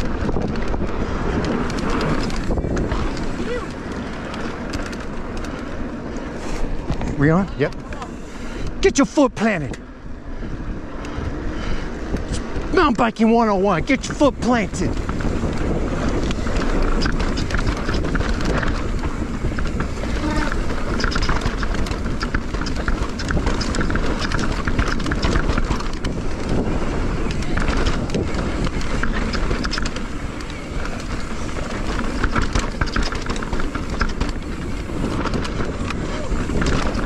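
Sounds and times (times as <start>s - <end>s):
wind noise on microphone: 0.0s - 8.9s, 9.6s - 37.0s
bike rattling and clicking: 0.0s - 37.0s
tyres running over dirt: 0.0s - 37.0s.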